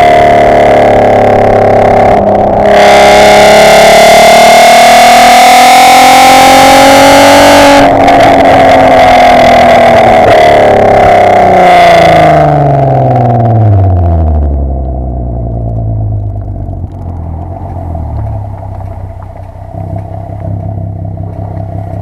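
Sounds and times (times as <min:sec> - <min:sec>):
loud car engine revving: 0:00.0 - 0:22.0.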